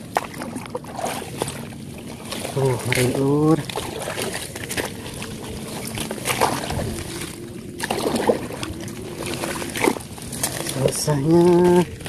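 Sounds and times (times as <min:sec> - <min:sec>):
paddle splashes and knocks: 0:00.0 - 0:12.0.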